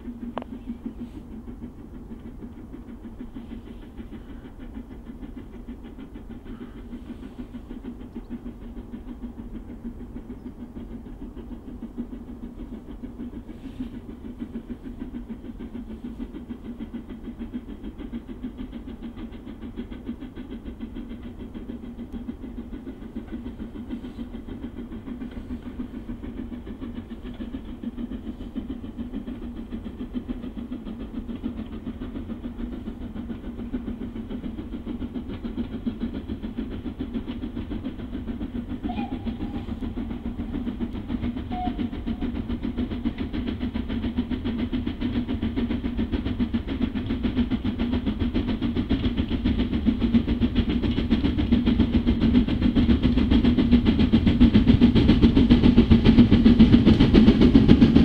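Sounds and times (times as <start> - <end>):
steam locomotive running: 0.0 - 58.0.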